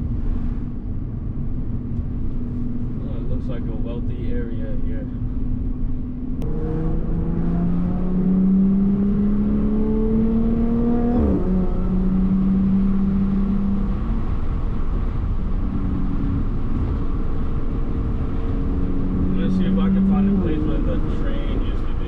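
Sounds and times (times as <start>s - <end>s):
car engine accelerating: 1.3s - 22.0s.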